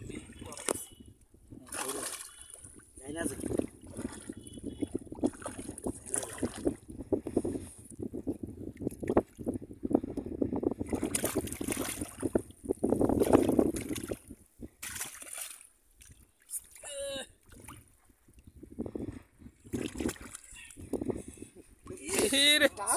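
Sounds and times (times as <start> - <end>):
shallow water sloshing and splashing: 0.0 - 22.9.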